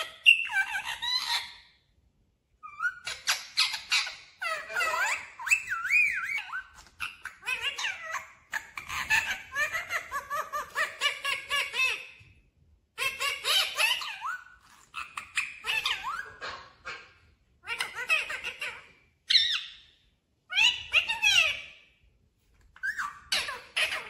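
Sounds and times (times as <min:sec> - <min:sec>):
parakeet chattering: 0:00.0 - 0:01.6, 0:02.6 - 0:12.2, 0:13.0 - 0:19.8, 0:20.5 - 0:21.7, 0:22.8 - 0:24.0.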